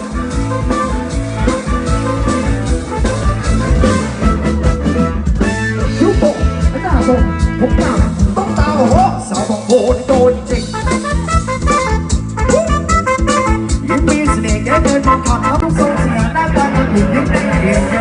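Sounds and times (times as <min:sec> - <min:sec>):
guitar: 0:00.0 - 0:18.0
steady drum beat: 0:00.0 - 0:18.0.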